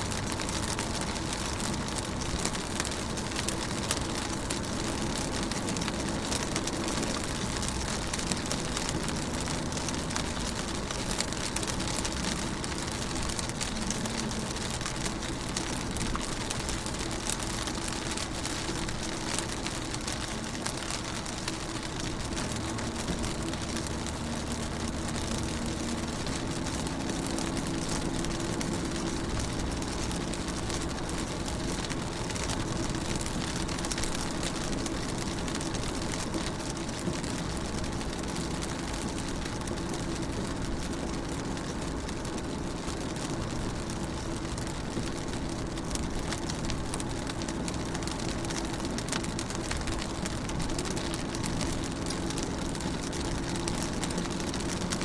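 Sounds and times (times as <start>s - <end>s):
rain pattering on car windows: 0.0s - 55.0s.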